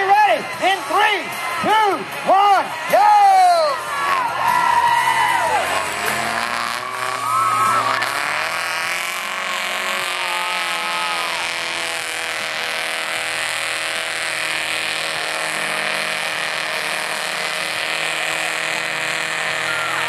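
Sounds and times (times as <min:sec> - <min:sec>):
truck engine at high revs: 0:00.0 - 0:20.0
wheels churning through mud: 0:03.4 - 0:20.0.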